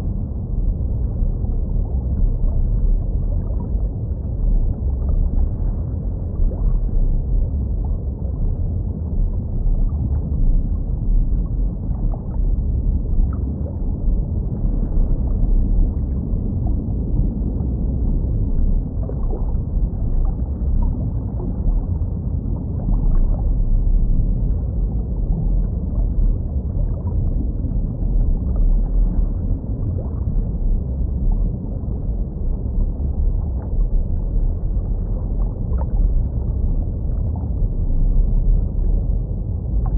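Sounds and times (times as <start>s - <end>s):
underwater rumble of moving water: 0.0s - 39.9s.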